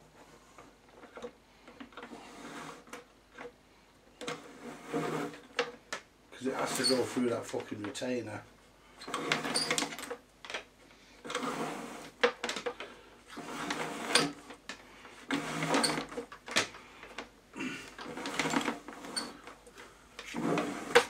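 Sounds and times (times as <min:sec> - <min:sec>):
cable rubbing and scraping: 0:00.2 - 0:03.5, 0:04.2 - 0:05.8, 0:06.4 - 0:08.4, 0:09.0 - 0:10.2, 0:11.2 - 0:21.0.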